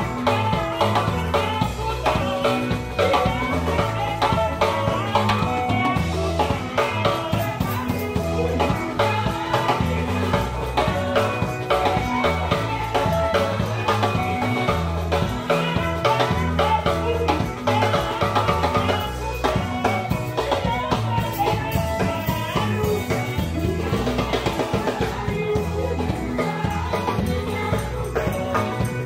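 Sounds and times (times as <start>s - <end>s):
drums and cymbals beat: 0.0s - 29.0s
electric bass line: 0.0s - 29.0s.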